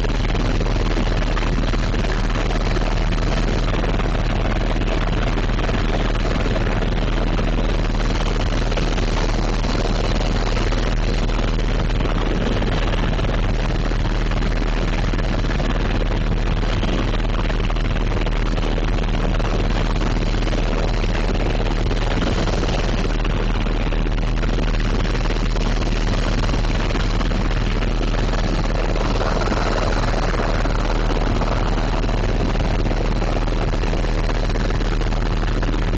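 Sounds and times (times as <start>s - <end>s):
helicopter rotor and engine noise: 0.0s - 35.9s.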